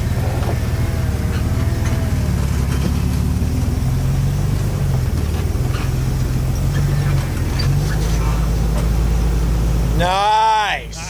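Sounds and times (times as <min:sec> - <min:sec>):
truck engine running low: 0:00.0 - 0:11.0.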